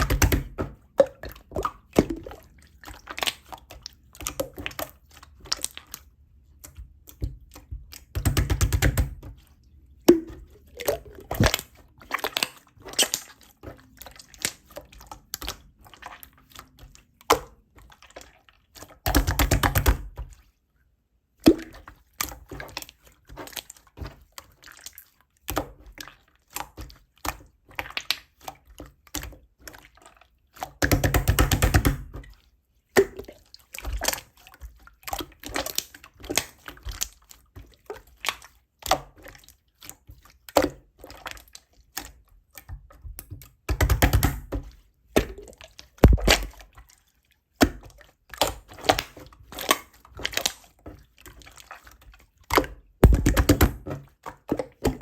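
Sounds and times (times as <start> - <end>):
slime squished by hand: 0.0 - 20.4, 30.6 - 46.9, 47.6 - 55.0.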